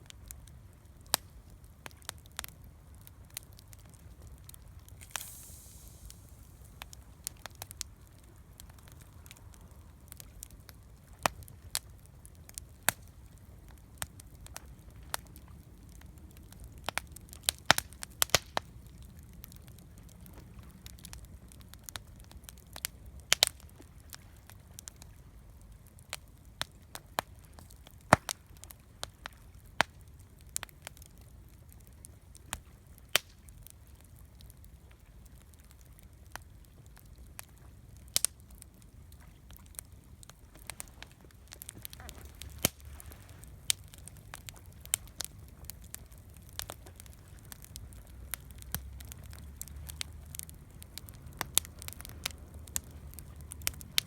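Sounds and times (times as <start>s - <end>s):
campfire crackling and popping: 0.0s - 54.0s
low rumble of burning: 0.0s - 54.0s.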